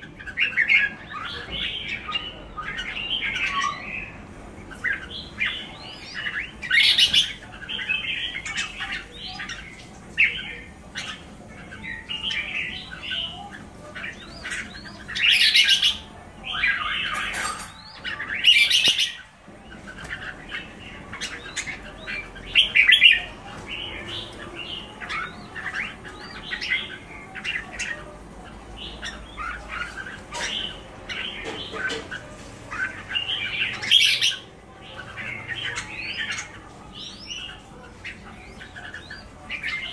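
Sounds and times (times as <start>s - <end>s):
birds chirping: 0.0s - 39.9s
harsh squawky bird calls: 0.0s - 39.9s.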